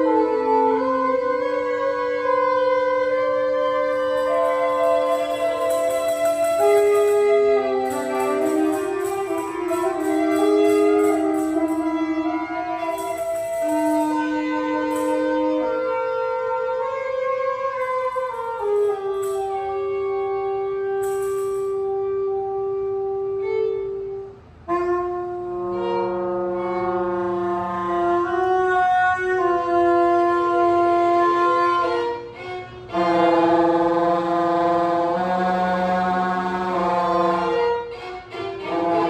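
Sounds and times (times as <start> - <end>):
bowed violin: 0.0 - 39.0
saxophones holding long tones: 0.0 - 39.0.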